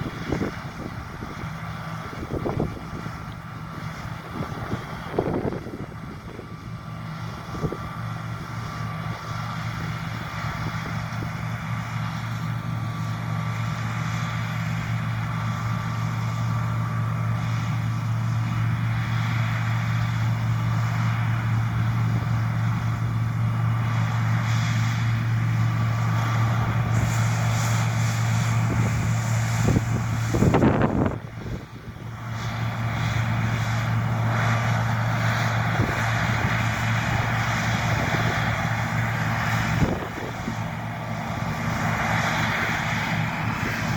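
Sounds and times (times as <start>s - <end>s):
combine harvester engine drone: 0.0s - 43.9s
threshing and cutting noise: 0.0s - 43.9s.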